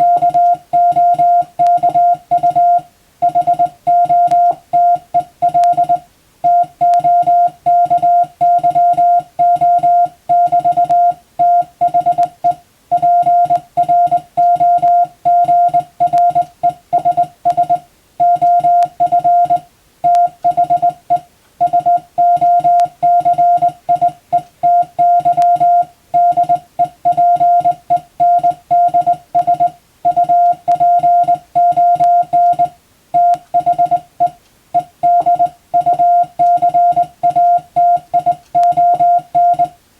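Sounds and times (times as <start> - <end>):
morse code beeps: 0.0 - 39.8.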